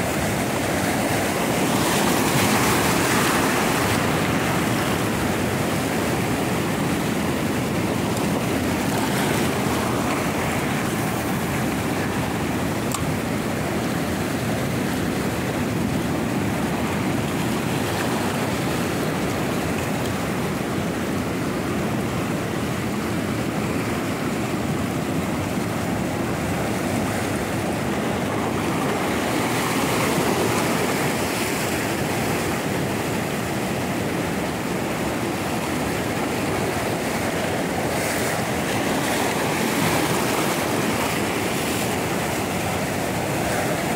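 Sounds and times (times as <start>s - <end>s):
ocean waves breaking on rocks: 0.0s - 43.9s.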